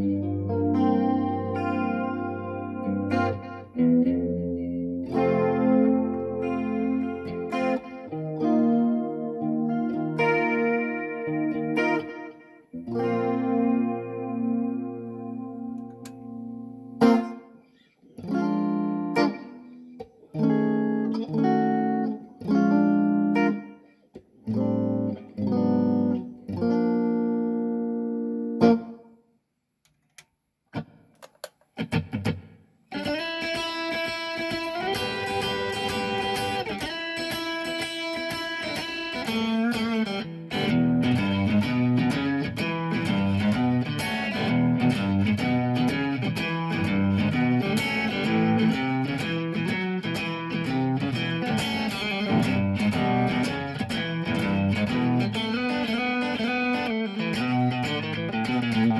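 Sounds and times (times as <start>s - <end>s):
electric guitar: 0.0s - 29.1s, 30.8s - 58.9s.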